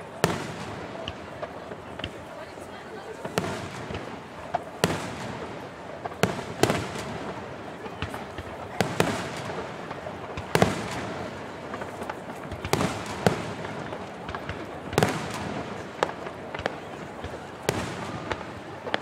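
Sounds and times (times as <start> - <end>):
fireworks booming: 0.0 - 19.0
fireworks crackles: 0.0 - 19.0.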